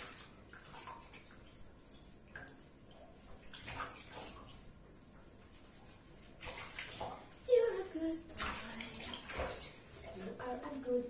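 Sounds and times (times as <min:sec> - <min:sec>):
bathwater splashing: 0:00.0 - 0:11.0
hands scrubbing wet fur: 0:00.0 - 0:11.0.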